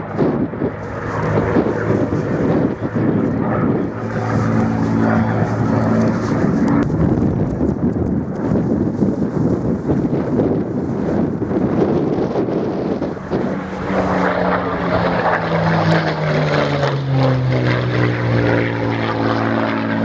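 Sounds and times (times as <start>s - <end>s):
aircraft piston engine flying past: 0.0s - 20.0s
wind on microphone: 0.0s - 20.0s.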